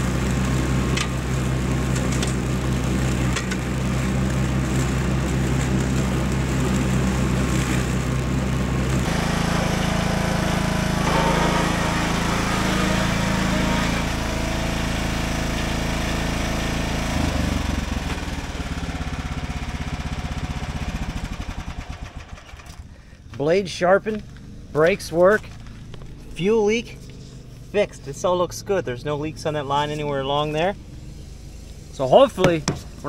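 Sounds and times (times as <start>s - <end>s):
riding mower engine running: 0.0s - 33.0s.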